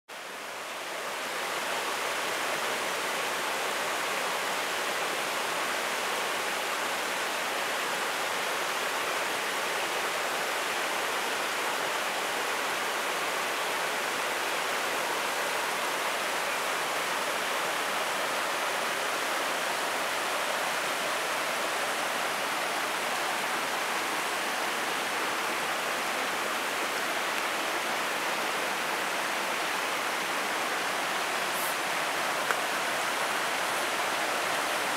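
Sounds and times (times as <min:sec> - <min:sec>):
river rushing over rocks: 0:00.2 - 0:34.9.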